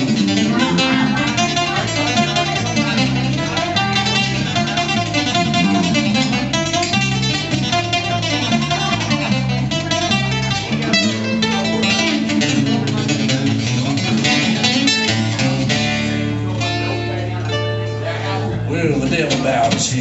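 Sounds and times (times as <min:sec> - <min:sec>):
acoustic guitar picked and strummed: 0:00.0 - 0:20.0.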